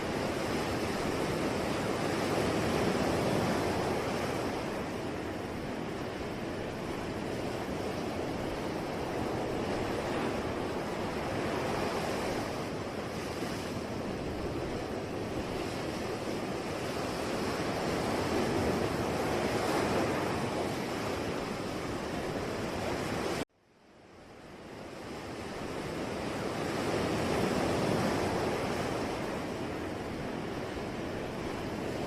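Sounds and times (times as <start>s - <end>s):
sea surf washing ashore: 0.0s - 23.4s, 24.4s - 32.0s.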